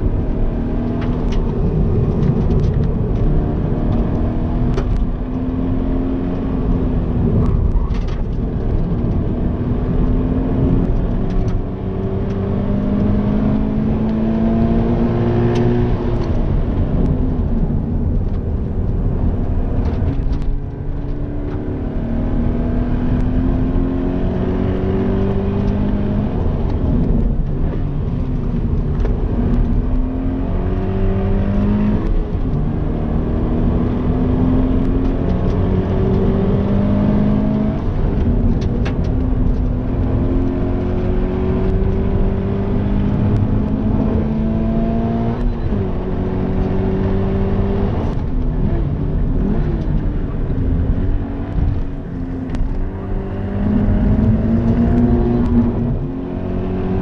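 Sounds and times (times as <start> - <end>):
car engine revving: 0.0 - 57.0
tyre and road noise: 0.0 - 57.0.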